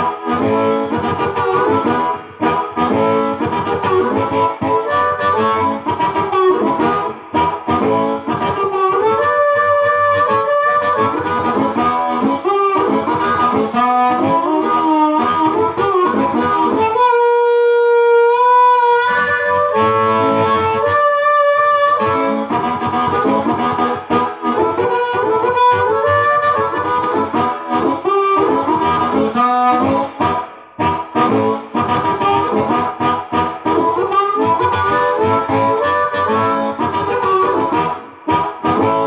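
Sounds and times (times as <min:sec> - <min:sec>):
amplified blues harmonica: 0:00.0 - 0:39.0.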